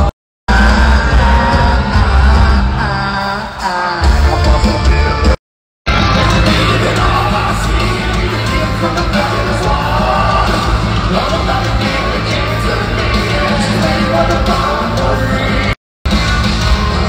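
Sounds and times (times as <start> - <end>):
heavy metal band playing live: 0.0 - 17.0.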